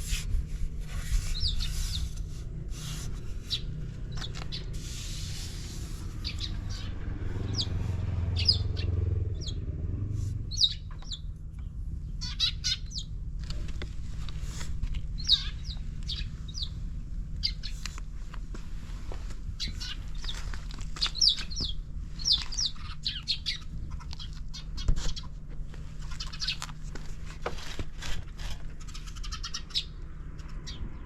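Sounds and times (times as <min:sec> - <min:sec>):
steady low rumble: 0:00.0 - 0:31.0
small birds chirping: 0:00.8 - 0:31.0.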